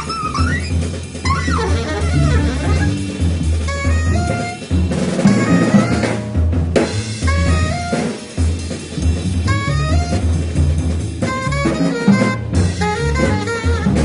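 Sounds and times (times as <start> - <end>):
instrumental music with drum beat: 0.0 - 14.0.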